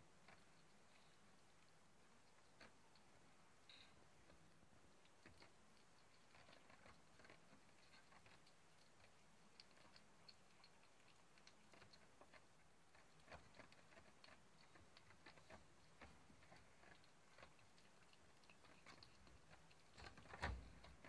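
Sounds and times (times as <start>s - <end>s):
kitten crunching dry food: 0.0s - 21.0s.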